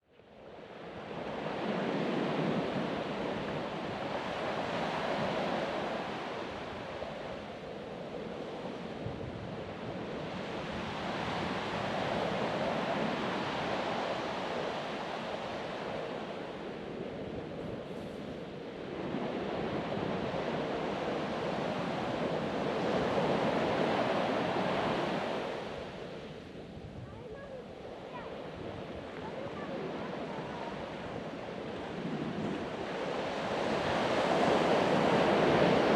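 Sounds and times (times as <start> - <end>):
ocean surf breaking on beach: 0.5 - 35.9.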